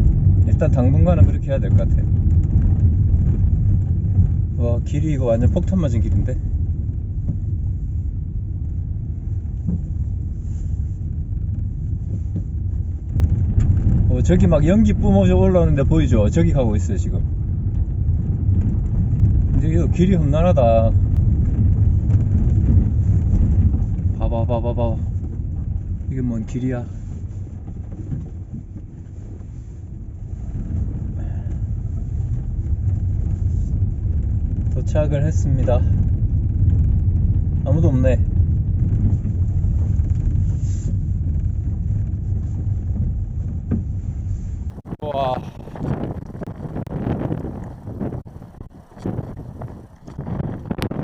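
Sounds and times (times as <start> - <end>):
engine and road rumble: 0.0 - 51.0.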